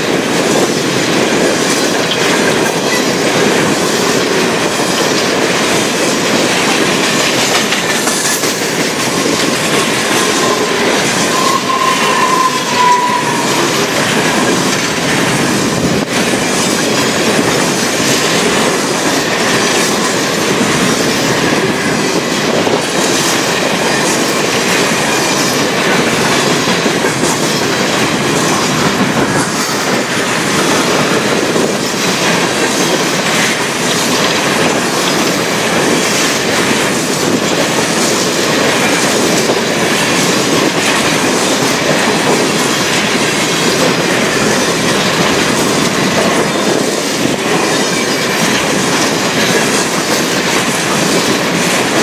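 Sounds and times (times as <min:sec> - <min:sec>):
train wheels rolling on rails: 0:00.0 - 0:52.0.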